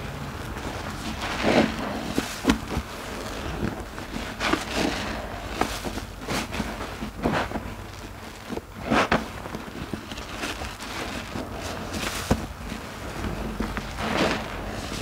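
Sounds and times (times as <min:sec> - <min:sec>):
sponge squelching: 0:00.0 - 0:15.0.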